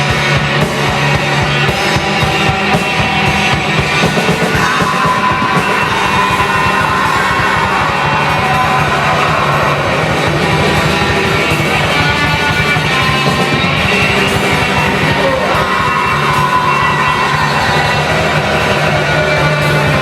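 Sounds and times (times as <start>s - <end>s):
fast driving drums: 0.0s - 20.0s
heavy metal song: 0.0s - 20.0s.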